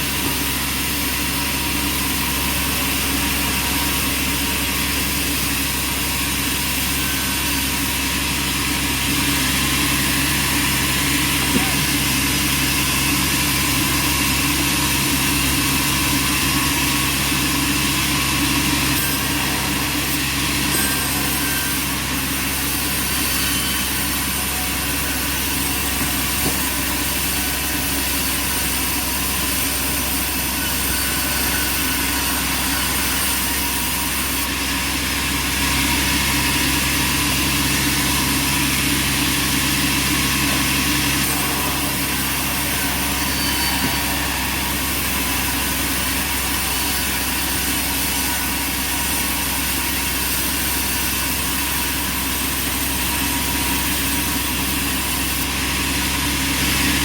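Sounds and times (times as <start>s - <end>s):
sawmill machine hum: 0.0s - 57.0s
steady machine whine: 0.0s - 57.0s.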